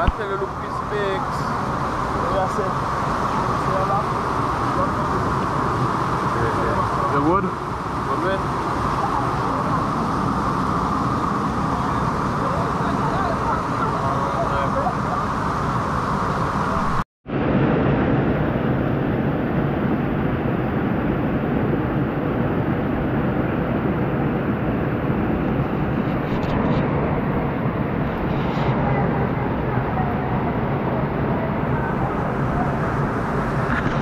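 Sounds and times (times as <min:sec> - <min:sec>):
waterfall roaring: 0:00.0 - 0:18.6, 0:21.2 - 0:34.0.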